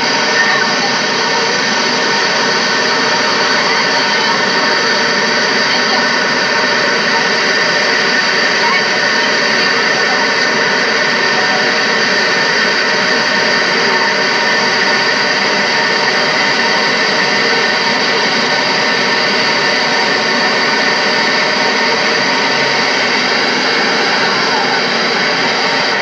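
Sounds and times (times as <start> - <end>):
loud rushing noise: 0.0 - 26.0.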